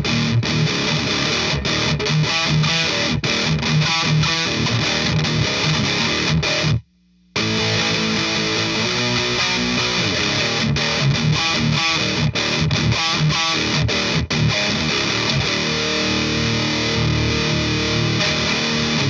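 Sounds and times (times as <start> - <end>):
distorted electric guitar riff: 0.0 - 19.0.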